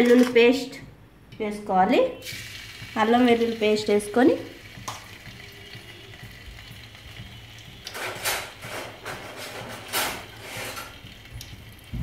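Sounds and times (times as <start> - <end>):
paste sizzling in hot oil: 2.2 - 12.0.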